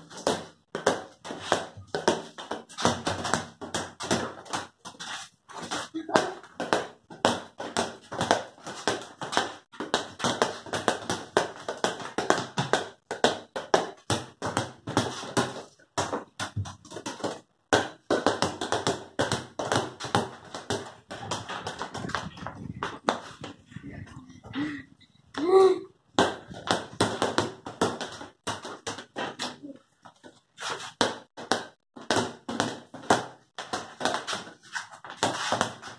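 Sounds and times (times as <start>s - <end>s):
rubber ball bouncing on concrete: 0.1s - 5.0s, 6.0s - 23.6s, 26.1s - 30.3s, 30.9s - 35.9s.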